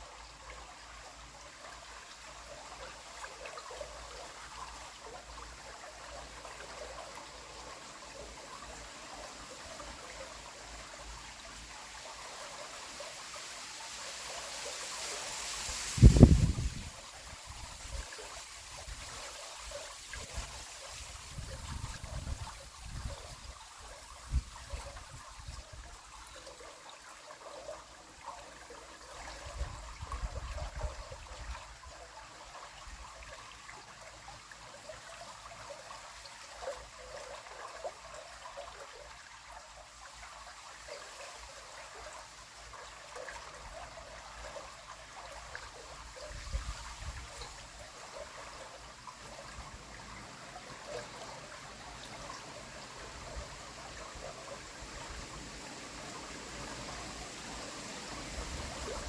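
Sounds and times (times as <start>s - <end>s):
river water trickling: 0.0s - 59.0s.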